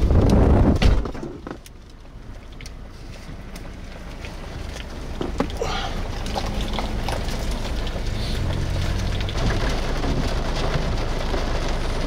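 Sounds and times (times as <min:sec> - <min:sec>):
heavy rain on vehicle: 0:00.0 - 0:12.0.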